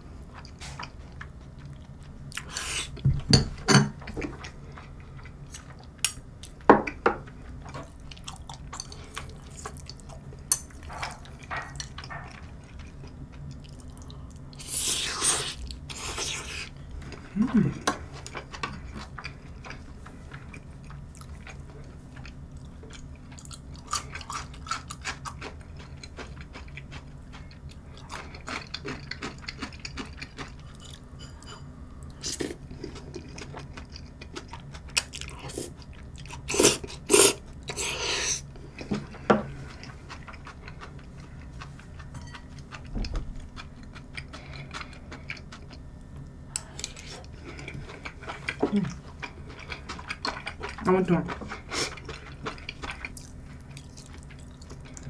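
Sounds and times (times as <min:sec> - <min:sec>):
person chewing: 0:00.2 - 0:03.0, 0:04.0 - 0:55.0.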